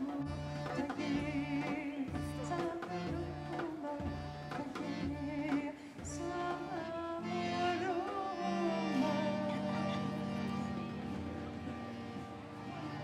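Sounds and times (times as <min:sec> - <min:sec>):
acoustic folk band: 0:00.0 - 0:13.0.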